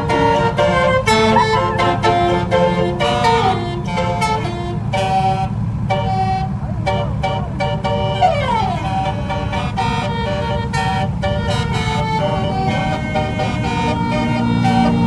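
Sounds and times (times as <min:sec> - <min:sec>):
engine rumble: 0:00.0 - 0:15.0
musical vehicle horn: 0:00.0 - 0:15.0.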